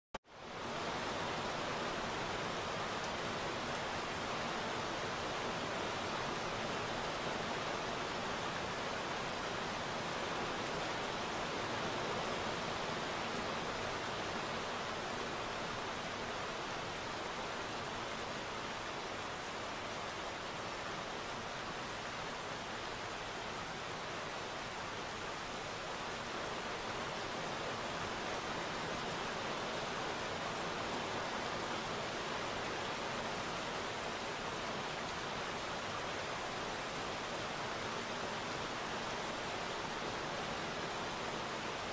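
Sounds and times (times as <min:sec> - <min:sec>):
steady rain: 0:00.2 - 0:41.9.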